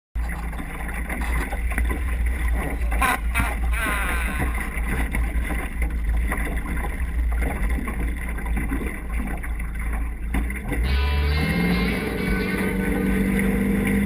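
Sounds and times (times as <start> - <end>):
small boat on water: 0.2 - 14.0.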